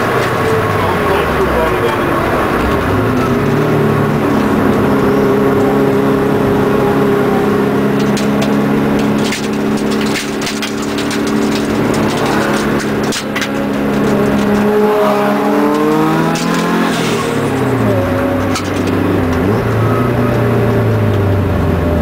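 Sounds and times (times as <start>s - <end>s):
sharp clicks and rattles: 0.0s - 6.4s, 7.6s - 21.3s
car engine revving: 0.0s - 22.0s.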